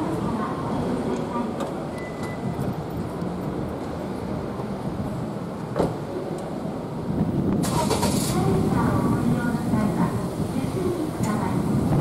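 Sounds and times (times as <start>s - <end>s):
street traffic: 0.0s - 12.0s
tram rumbling on rails: 0.0s - 12.0s.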